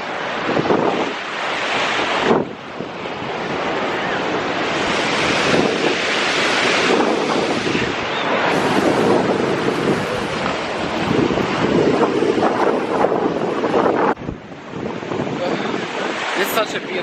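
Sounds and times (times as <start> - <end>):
sea surf washing onto beach: 0.0 - 17.0
wind buffeting microphone: 0.0 - 17.0.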